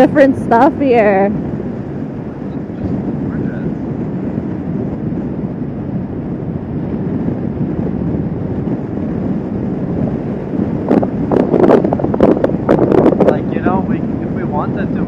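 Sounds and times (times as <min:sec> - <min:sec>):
motorcycle engine: 0:00.0 - 0:15.0
road noise: 0:00.0 - 0:15.0
wind rushing on microphone: 0:00.0 - 0:15.0.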